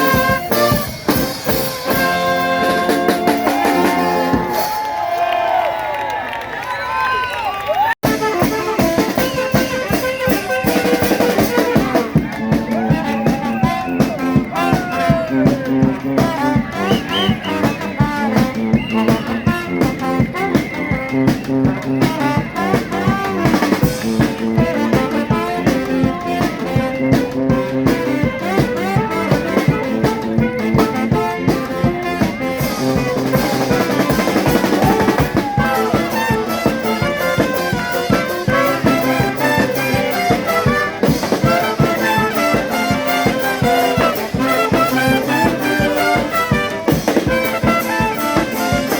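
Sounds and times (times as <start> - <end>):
trumpets and trombones playing: 0.0 - 5.6, 8.0 - 48.9
drums beating: 0.0 - 5.9, 8.0 - 48.9.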